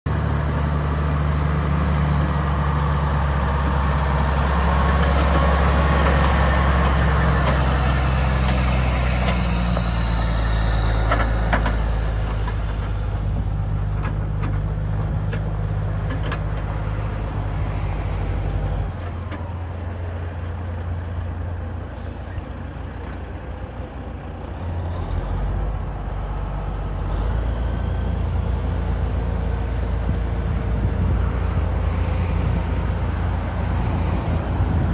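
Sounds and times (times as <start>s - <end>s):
diesel truck engine running: 0.1s - 34.9s.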